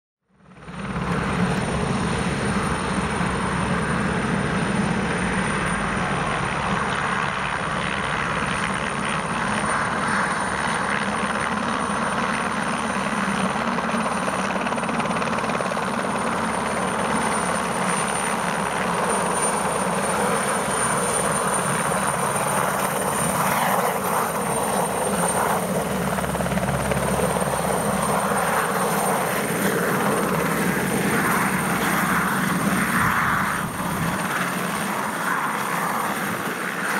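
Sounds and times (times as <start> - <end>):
helicopter engine and rotor: 0.3 - 36.9
high turbine whine: 0.5 - 36.9.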